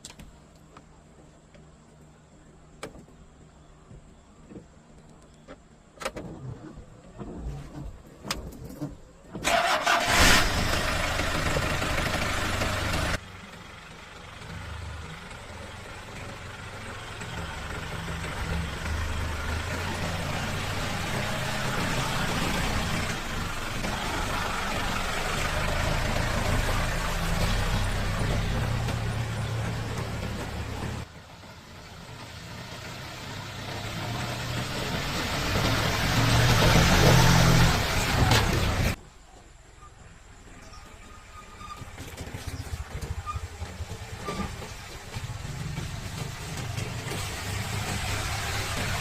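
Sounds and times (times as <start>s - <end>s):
engine starting and running: 6.0s - 39.0s, 40.4s - 49.0s.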